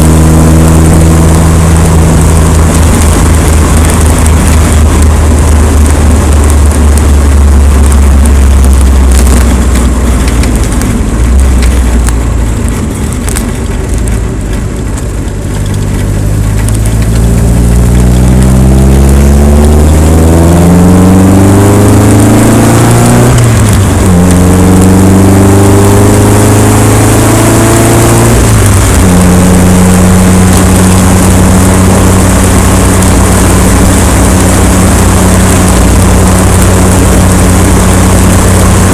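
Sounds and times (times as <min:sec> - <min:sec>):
rushing wind noise: 0:00.0 - 0:38.9
vehicle engine accelerating: 0:00.0 - 0:38.9.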